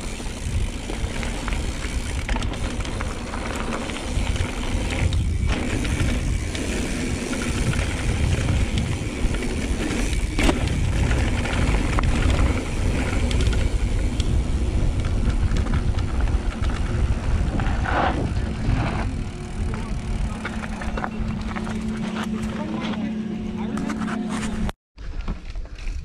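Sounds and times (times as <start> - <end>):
bike tyres rolling over dirt and rocks: 0.0 - 23.1.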